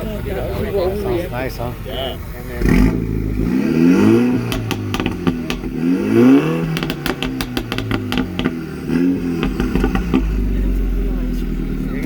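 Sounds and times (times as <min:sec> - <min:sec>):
car engine revving: 0:00.0 - 0:12.0
exhaust crackles and pops: 0:02.2 - 0:12.0.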